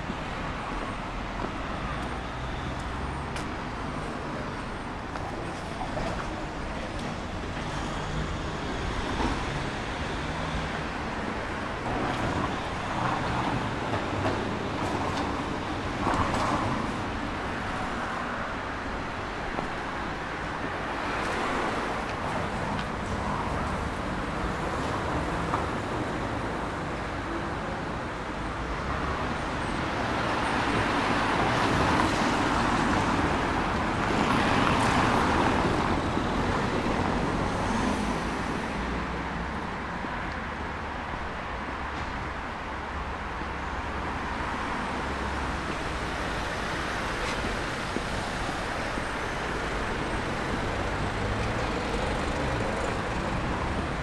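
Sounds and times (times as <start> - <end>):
road traffic noise: 0.0 - 54.0
vehicles passing close: 0.0 - 54.0.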